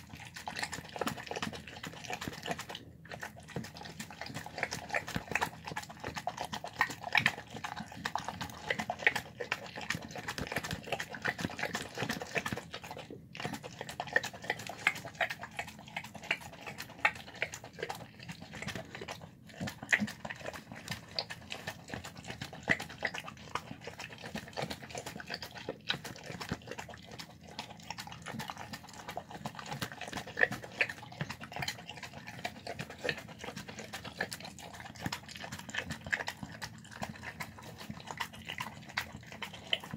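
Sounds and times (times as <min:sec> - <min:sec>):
dog chewing and smacking: 0:00.0 - 0:39.9.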